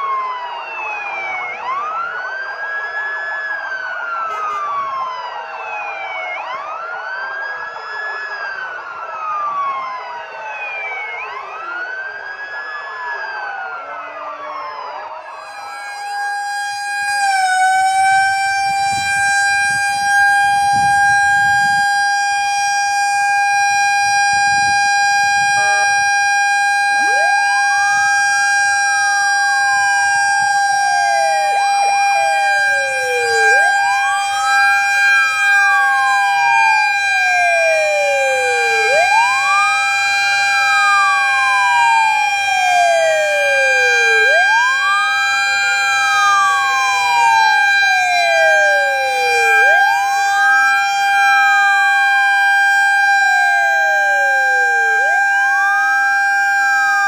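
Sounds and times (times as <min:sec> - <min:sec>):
steady high siren tone: 0:00.0 - 0:57.0
wailing siren: 0:00.0 - 0:57.0.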